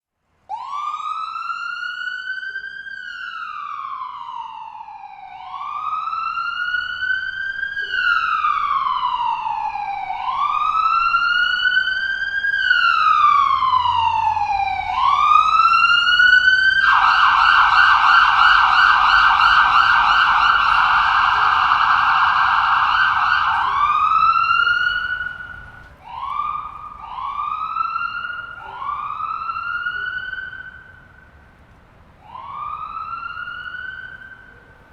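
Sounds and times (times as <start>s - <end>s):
ambulance siren: 0.5s - 34.9s.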